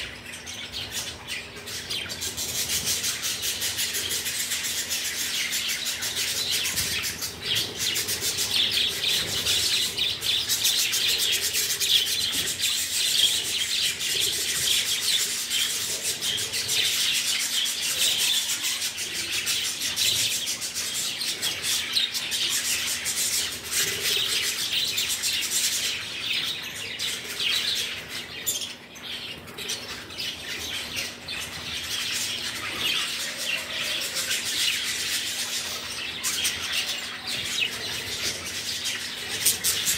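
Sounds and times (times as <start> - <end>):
budgerigar flock chattering: 0.0 - 39.9.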